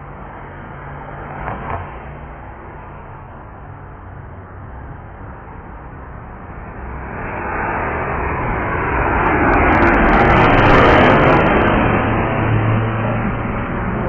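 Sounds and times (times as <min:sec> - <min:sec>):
jet engines overhead: 0:00.0 - 0:14.0.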